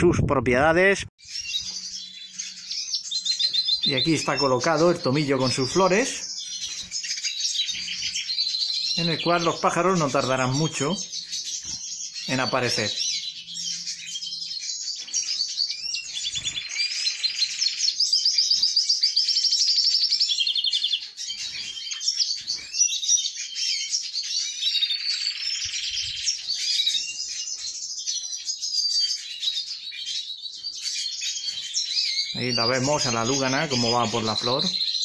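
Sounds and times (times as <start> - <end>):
small birds chirping and trilling: 0.0 - 35.0.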